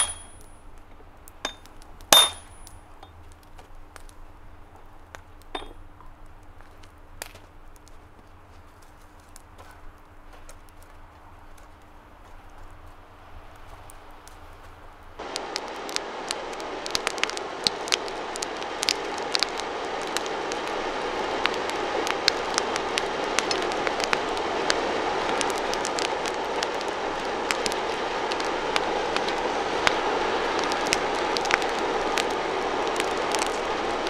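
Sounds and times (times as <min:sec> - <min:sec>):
flame rushing: 0:00.0 - 0:34.0
wood fire crackling and popping: 0:00.0 - 0:34.0.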